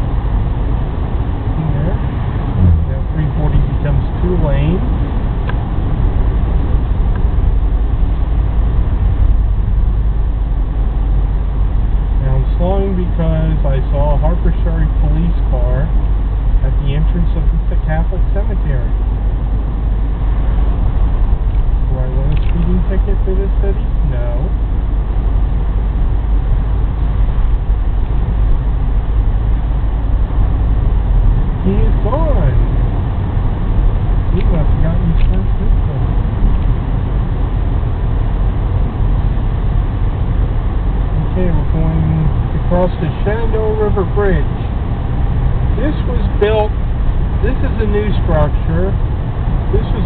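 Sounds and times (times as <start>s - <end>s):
car driving heard from inside: 0.0s - 50.0s.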